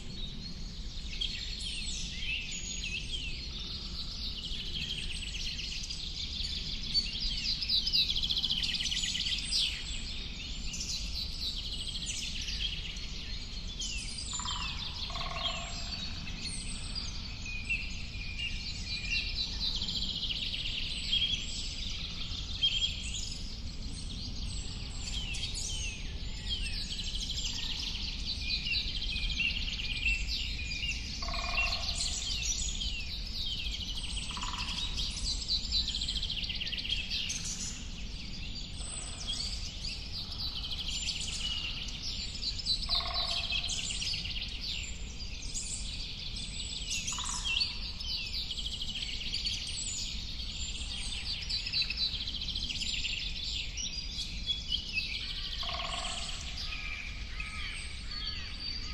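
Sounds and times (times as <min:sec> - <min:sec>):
birds chirping and trilling: 0:00.1 - 0:58.9.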